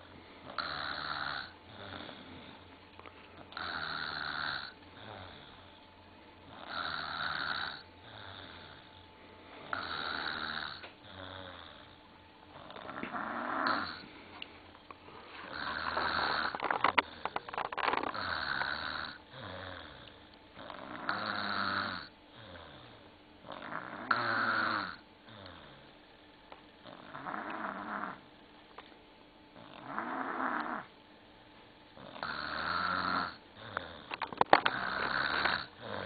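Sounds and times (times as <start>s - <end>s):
child snoring: 0.0s - 2.7s, 3.5s - 5.8s, 6.5s - 14.1s, 15.4s - 26.0s, 26.8s - 28.3s, 29.5s - 31.0s, 32.0s - 36.0s
quiet breaths: 0.0s - 24.3s, 25.2s - 32.6s, 33.2s - 36.0s.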